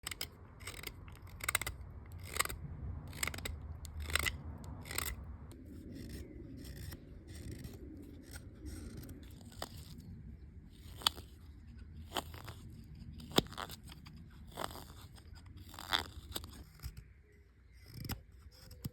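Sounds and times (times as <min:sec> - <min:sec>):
knife carving wood: 0:00.0 - 0:18.9.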